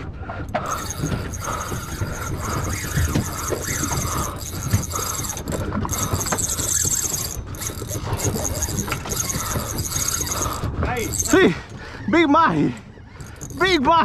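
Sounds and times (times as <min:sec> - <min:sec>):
wind and boat rumble: 0:00.0 - 0:14.0
fishing reel ticking: 0:00.5 - 0:11.9, 0:12.6 - 0:14.0.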